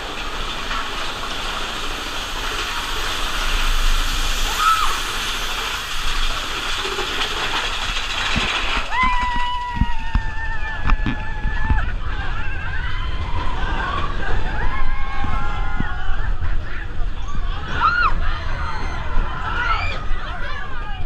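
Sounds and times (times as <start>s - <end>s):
roller coaster rushing on track: 0.0s - 21.0s.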